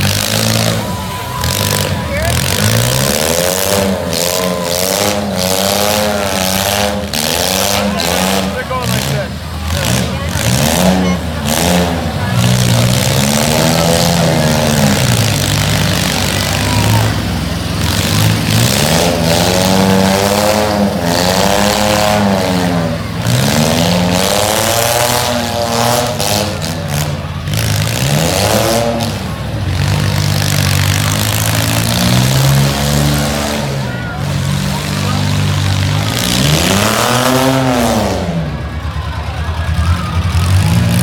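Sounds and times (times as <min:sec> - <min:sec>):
truck engines revving hard: 0:00.0 - 0:41.0.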